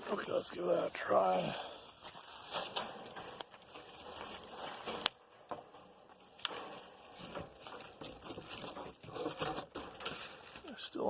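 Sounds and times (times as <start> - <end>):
rustling and handling noises: 0.0 - 11.0.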